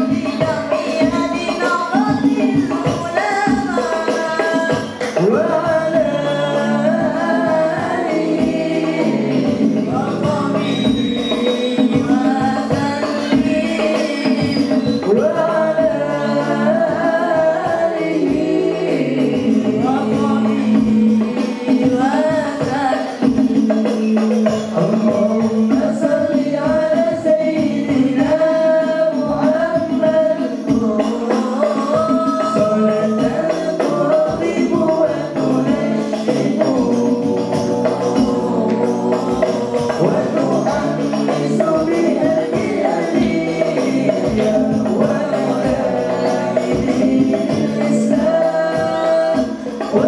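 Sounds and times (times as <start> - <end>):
backing voices singing: 0.0 - 50.0
boy singing through a pa: 0.0 - 50.0
frame drums: 0.0 - 50.0.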